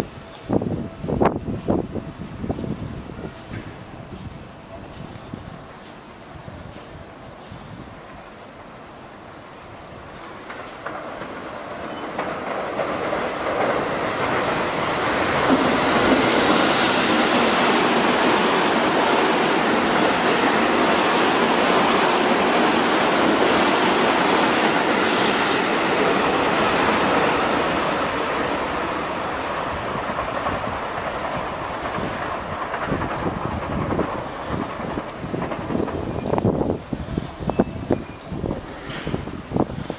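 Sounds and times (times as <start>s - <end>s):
electric train passing: 0.0s - 39.9s.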